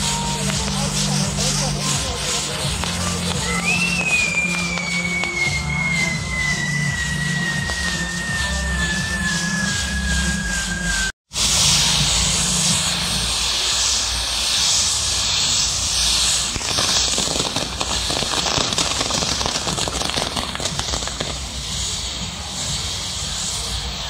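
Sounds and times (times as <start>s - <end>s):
fireworks crackling: 0.0s - 24.0s
hiss of firework fountains: 0.0s - 24.0s.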